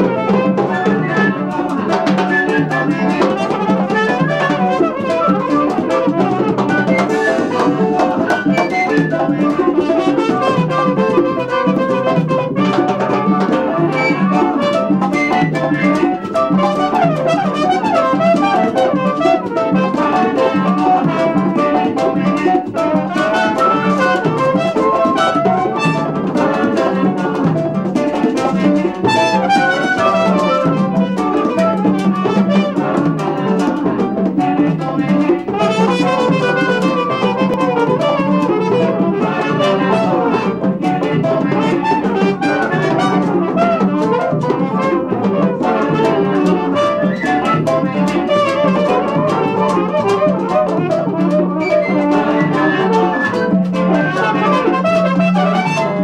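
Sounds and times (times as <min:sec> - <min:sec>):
congas and hand percussion: 0:00.0 - 0:56.0
latin band playing: 0:00.0 - 0:56.0
trumpet and brass: 0:00.0 - 0:56.0.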